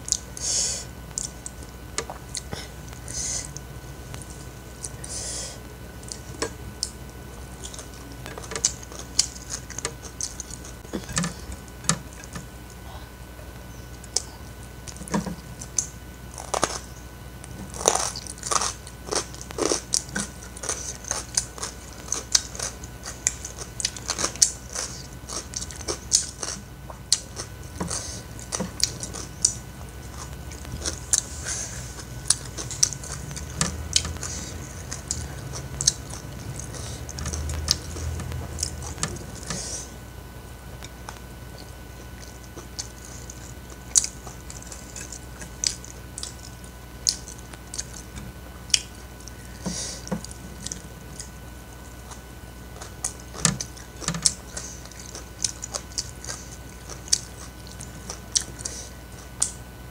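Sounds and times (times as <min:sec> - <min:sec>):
person chewing food: 0:00.0 - 0:59.7.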